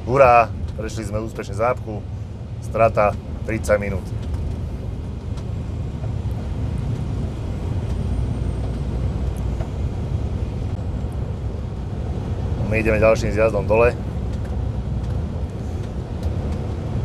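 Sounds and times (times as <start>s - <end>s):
lorry engine rumble: 0.0s - 17.0s
tyres on wet road: 0.0s - 17.0s.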